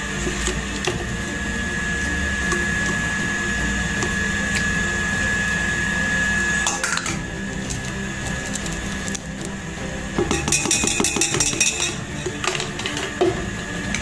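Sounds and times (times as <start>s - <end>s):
mechanical hum with high whine: 0.0s - 14.0s.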